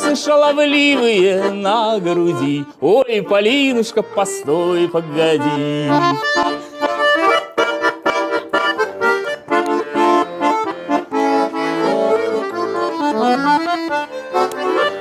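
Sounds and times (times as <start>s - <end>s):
button accordion playing: 0.0s - 15.0s.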